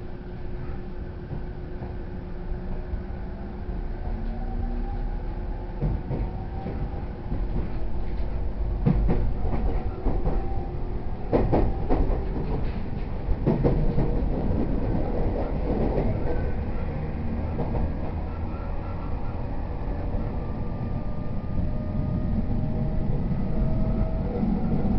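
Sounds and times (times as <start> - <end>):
train wheels rumbling on rails: 0.1 - 24.9.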